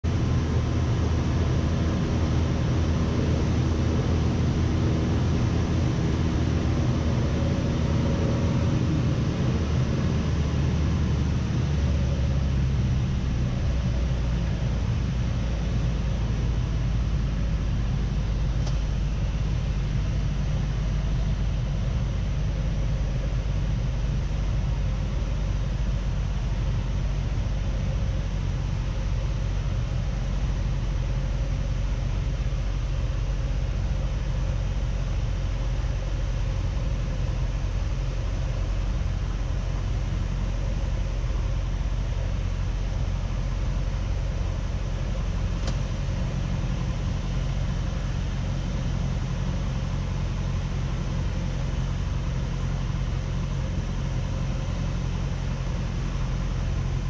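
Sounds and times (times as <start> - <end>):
aircraft engine and propeller droning: 0.0 - 57.0.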